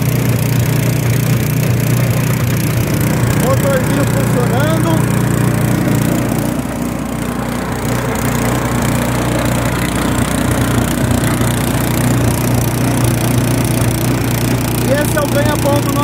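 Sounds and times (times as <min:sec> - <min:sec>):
gasoline engine running: 0:00.0 - 0:16.0.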